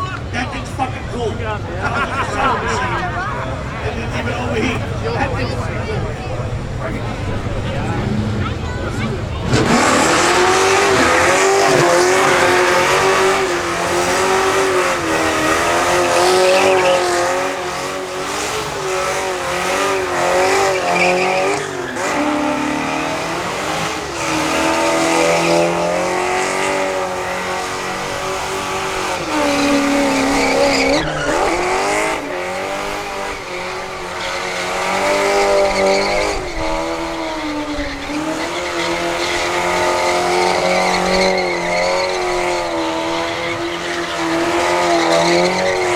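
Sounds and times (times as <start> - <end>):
car engine revving high: 0.0 - 45.9
tyres squealing on pavement: 0.0 - 45.9.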